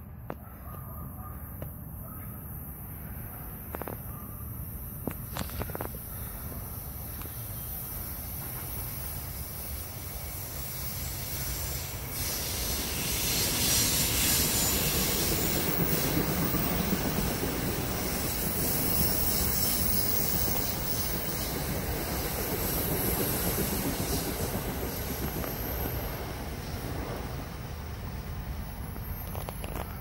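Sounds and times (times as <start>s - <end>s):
train wheel and rail noise: 0.0s - 30.0s.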